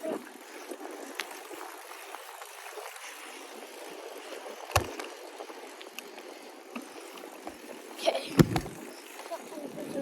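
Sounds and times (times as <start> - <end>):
bicycle tyres rolling: 0.1 - 9.4.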